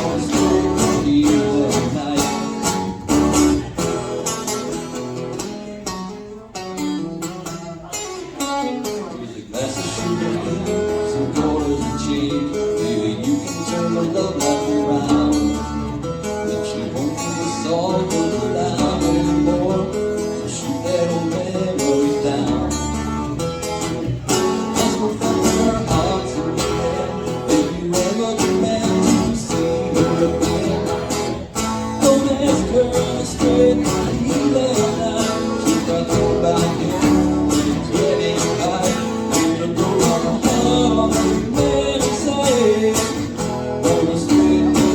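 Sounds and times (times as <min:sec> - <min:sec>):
acoustic guitar strumming: 0:00.0 - 0:44.9.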